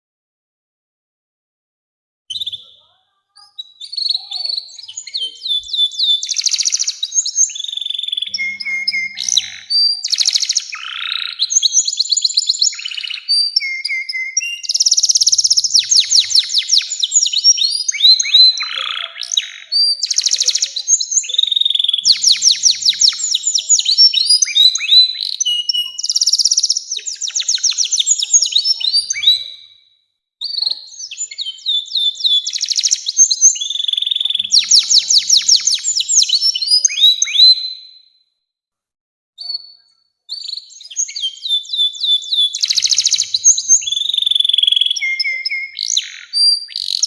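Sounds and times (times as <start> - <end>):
canary singing trills: 2.3 - 29.8, 30.4 - 38.0, 39.4 - 47.0.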